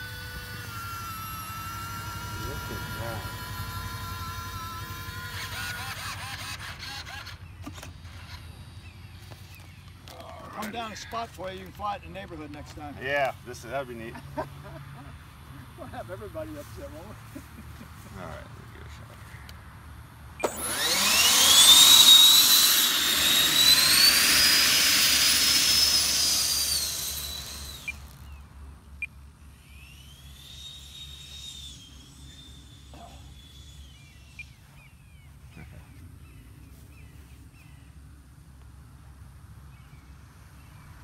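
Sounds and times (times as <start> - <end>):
distant fan whine: 0.0 - 41.0
electric ducted fan whine: 0.0 - 41.0.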